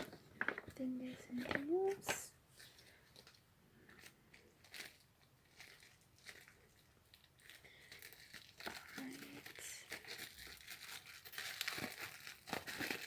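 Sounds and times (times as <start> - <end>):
paper crinkling: 0.0 - 13.0
paper packaging rustling: 0.0 - 13.0.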